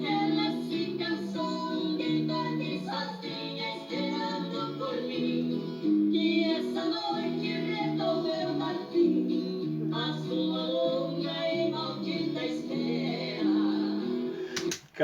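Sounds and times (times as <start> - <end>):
two men singing in harmony: 0.0 - 14.5.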